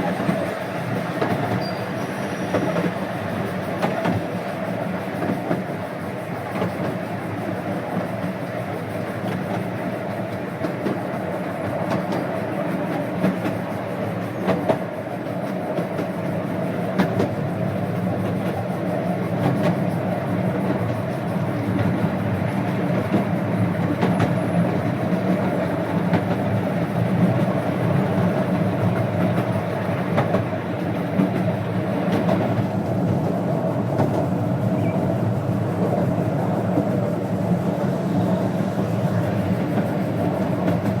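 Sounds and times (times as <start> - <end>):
steam train running on track: 0.0 - 41.0.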